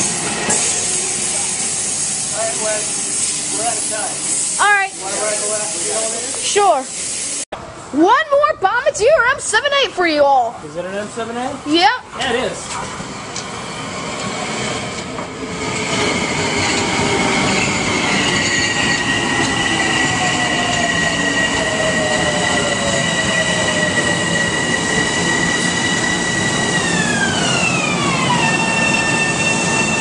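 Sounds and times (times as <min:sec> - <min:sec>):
electric train whining: 0:00.0 - 0:07.9, 0:11.0 - 0:30.0.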